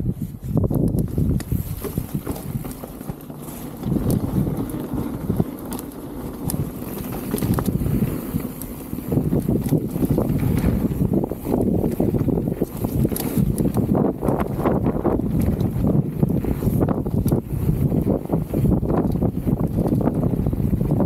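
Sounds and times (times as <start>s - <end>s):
bike tyres rumbling on dirt: 0.0s - 21.0s
bike rattling and knocking: 0.4s - 21.0s.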